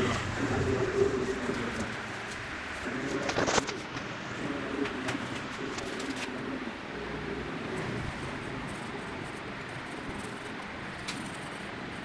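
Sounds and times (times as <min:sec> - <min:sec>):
pigeon cooing: 0:00.0 - 0:11.4.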